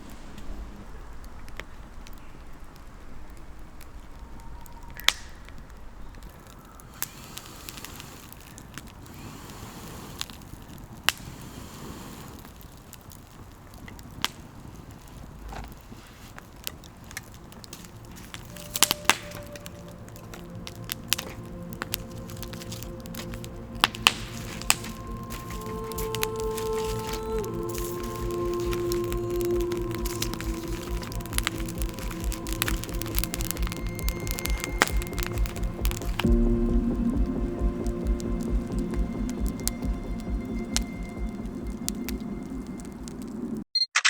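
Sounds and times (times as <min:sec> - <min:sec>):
campfire crackling: 0:00.0 - 0:43.7.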